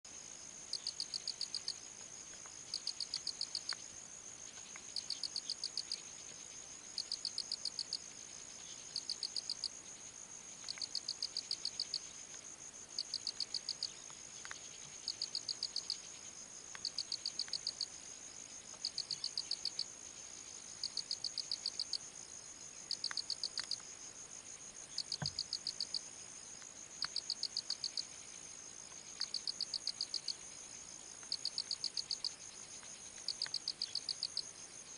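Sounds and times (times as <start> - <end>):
insect chirping trill: 0.1 - 34.9
insects high-pitched whine: 0.1 - 34.9.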